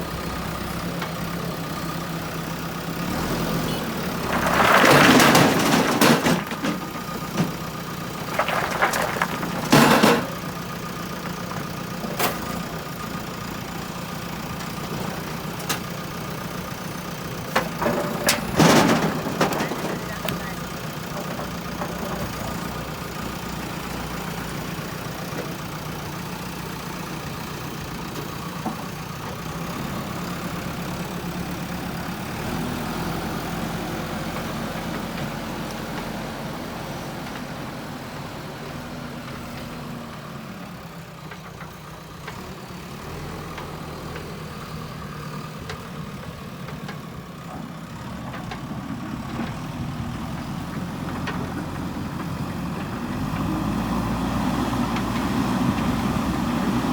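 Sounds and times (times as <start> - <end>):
diesel engine under varying load: 0.0 - 56.9.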